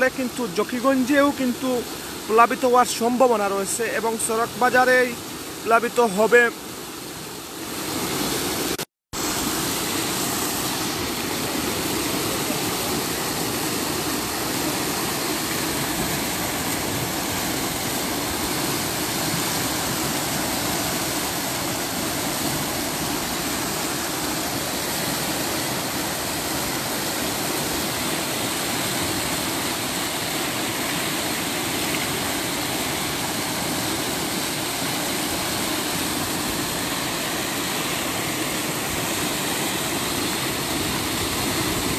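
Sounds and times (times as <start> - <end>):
floodwater rushing: 0.0 - 41.9.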